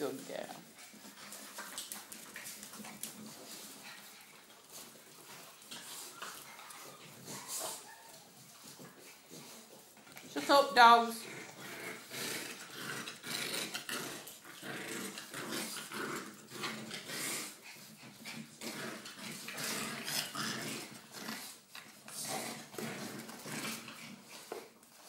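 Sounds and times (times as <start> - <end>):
dogs growling and yapping: 0.1 - 25.0.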